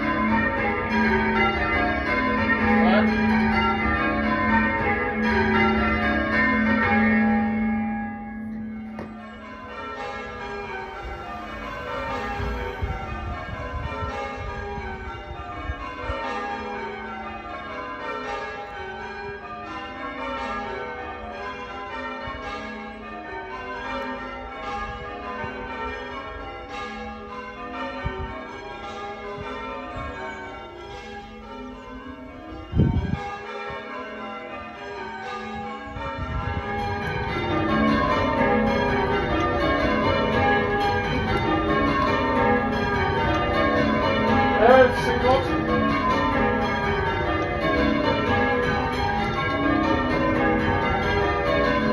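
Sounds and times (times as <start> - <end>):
church bells change ringing: 0.0 - 51.9.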